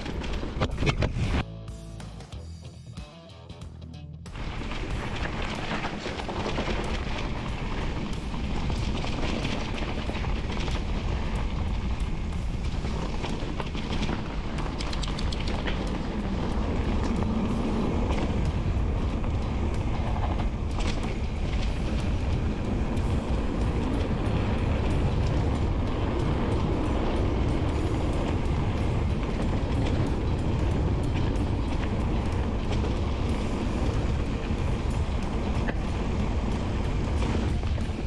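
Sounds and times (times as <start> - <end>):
bike rattling: 0.0 - 1.4, 4.3 - 38.0
wind rumble on microphone: 0.0 - 1.4, 4.3 - 38.0.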